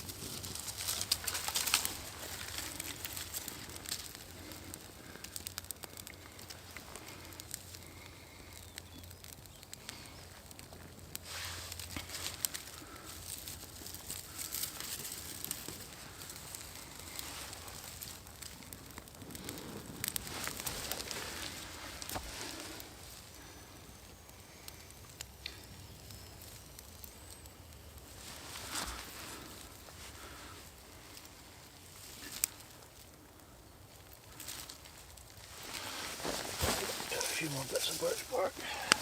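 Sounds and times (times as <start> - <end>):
small fire crackling and snapping: 0.0 - 39.0.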